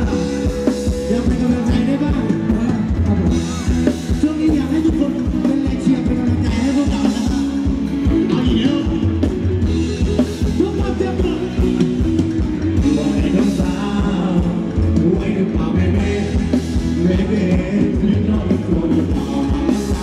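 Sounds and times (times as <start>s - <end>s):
bass: 0.0s - 20.0s
drum kit: 0.0s - 20.0s
person singing: 0.0s - 20.0s.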